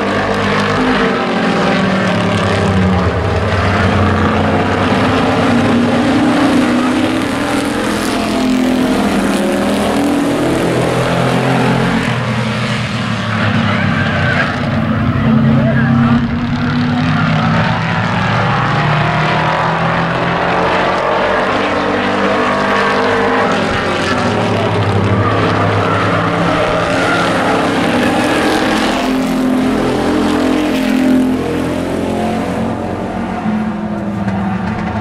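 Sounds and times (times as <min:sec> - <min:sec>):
race truck engines: 0:00.0 - 0:35.0.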